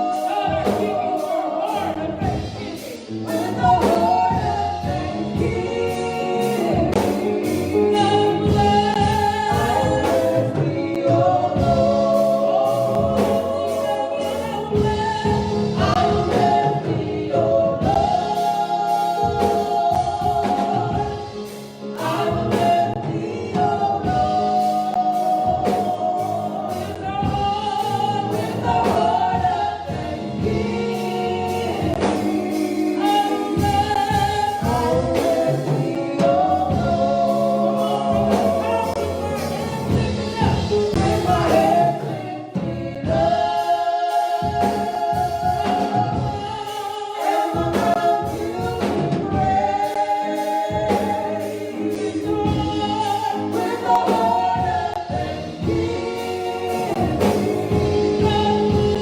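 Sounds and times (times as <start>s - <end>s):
choir singing worship song: 0.0s - 59.0s
instrumental accompaniment with beat: 0.0s - 59.0s.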